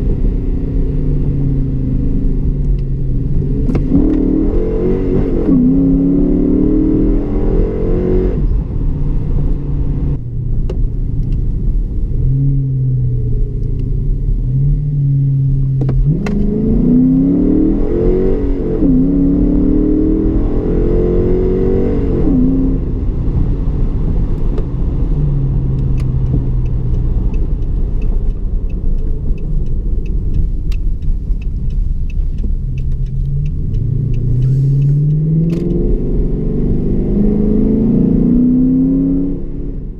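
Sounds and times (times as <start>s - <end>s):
car engine rumbling and revving: 0.0s - 39.9s.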